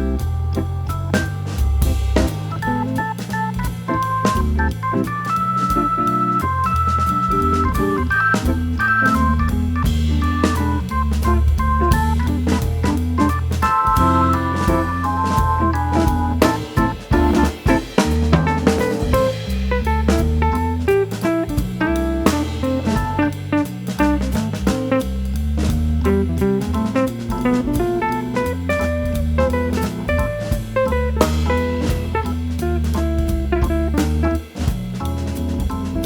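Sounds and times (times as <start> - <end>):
jazzy guitar bass and drums music: 0.0 - 36.0.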